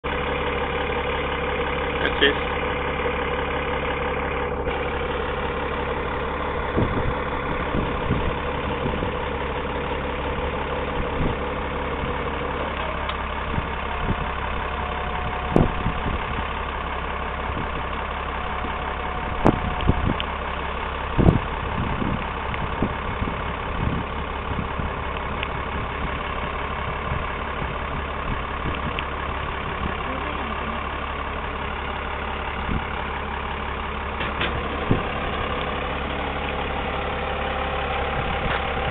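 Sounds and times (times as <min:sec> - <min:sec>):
diesel engine idling: 0:00.0 - 0:38.9
hydraulic whine: 0:00.2 - 0:26.2, 0:31.4 - 0:38.9.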